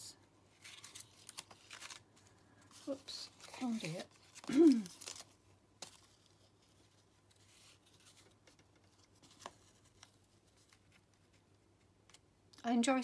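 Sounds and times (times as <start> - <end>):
paper and thread rustling: 0.5 - 12.2.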